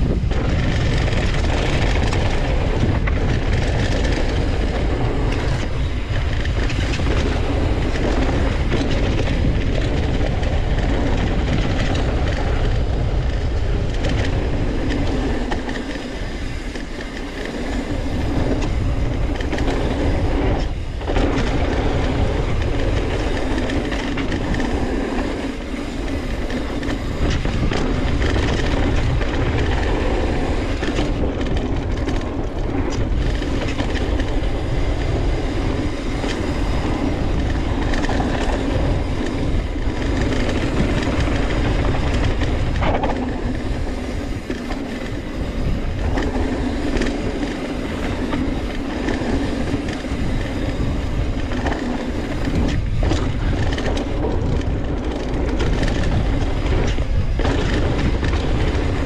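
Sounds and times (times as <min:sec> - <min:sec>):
bike knocks and rattles: 0:00.0 - 0:59.0
wind rush on microphone: 0:00.0 - 0:59.0.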